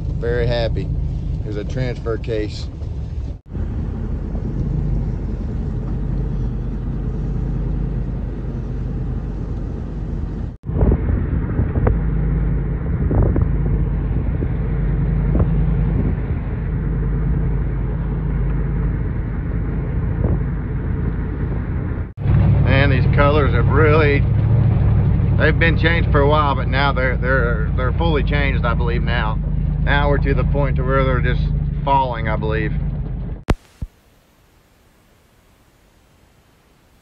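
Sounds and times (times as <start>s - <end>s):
truck engine hum and road rumble: 0.0s - 37.0s.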